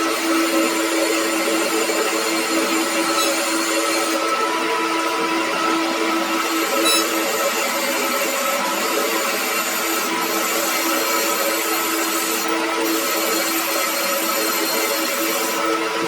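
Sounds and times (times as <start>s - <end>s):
power tool whirring: 0.0s - 15.8s.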